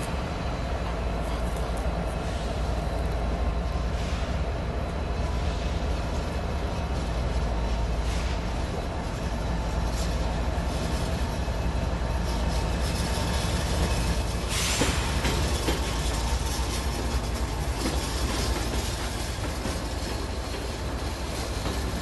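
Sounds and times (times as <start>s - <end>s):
freight train rolling past: 0.0s - 22.0s
wheel hiss on rails: 0.0s - 22.0s.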